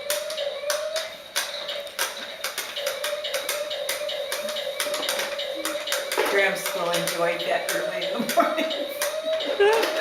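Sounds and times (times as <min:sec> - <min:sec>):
toy truck motor whine: 0:00.0 - 0:10.0.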